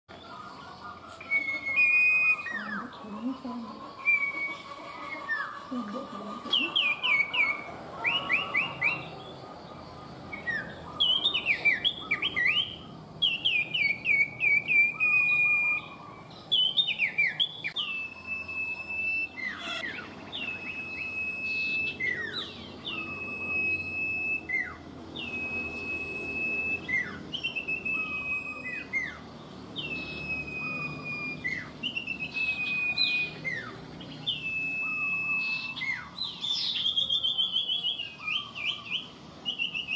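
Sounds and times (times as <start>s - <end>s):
bird singing whistled phrases: 1.2s - 9.4s, 10.3s - 39.9s.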